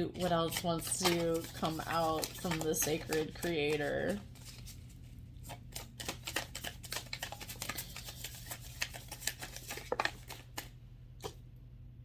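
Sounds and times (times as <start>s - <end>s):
low steady hum: 0.0s - 12.0s
cards being shuffled: 0.2s - 11.4s.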